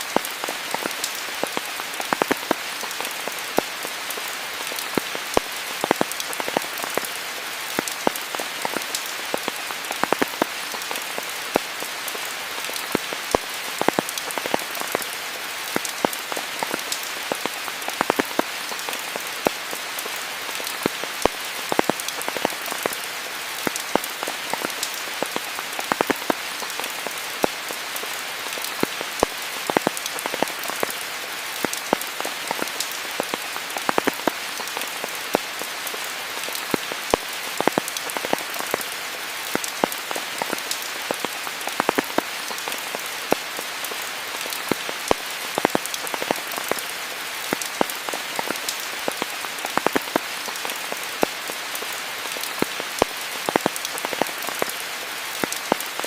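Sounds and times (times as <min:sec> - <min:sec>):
raindrops pattering close by: 0:00.0 - 0:56.0
steady rain hiss: 0:00.0 - 0:56.0.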